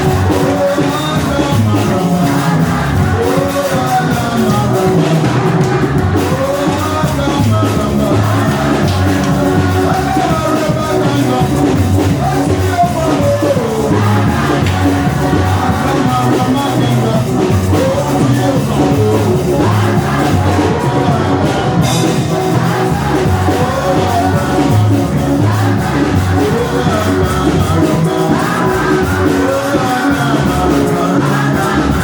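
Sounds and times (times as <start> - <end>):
people shouting: 0.0 - 11.4, 12.2 - 32.0
bass beat: 0.0 - 32.0
live band with singing: 0.0 - 32.0.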